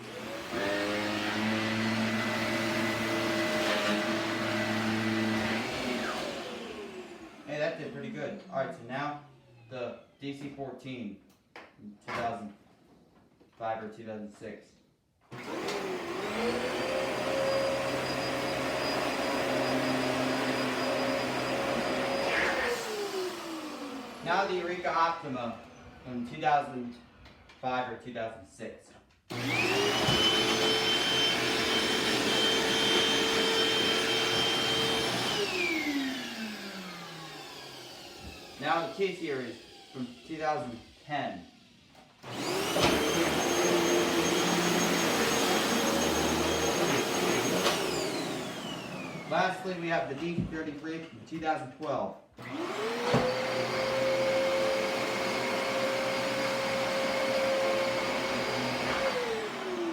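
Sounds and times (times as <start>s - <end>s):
vacuum cleaner motor whining: 0.0s - 8.0s, 15.3s - 26.2s, 29.3s - 50.8s, 52.4s - 59.9s.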